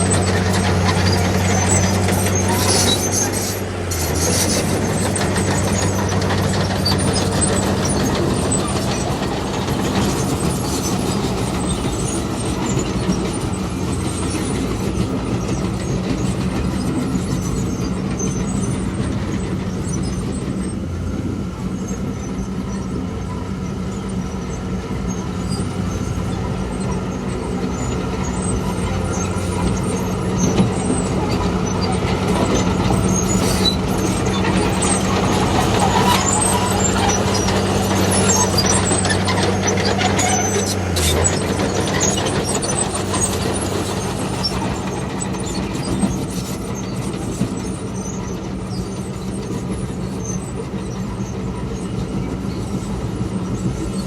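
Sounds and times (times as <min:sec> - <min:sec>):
diesel machinery engine hum: 0:00.0 - 0:54.0
machinery rattling and clatter: 0:00.0 - 0:54.0.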